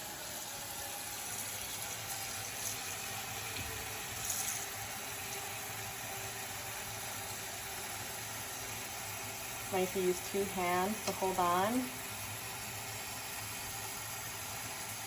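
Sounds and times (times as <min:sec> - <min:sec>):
tap water running into a pot: 0:00.0 - 0:15.0.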